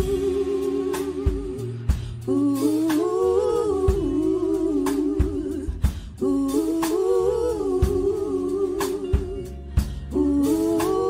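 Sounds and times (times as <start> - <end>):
soul band music: 0.0 - 11.0
woman singing: 0.0 - 11.0.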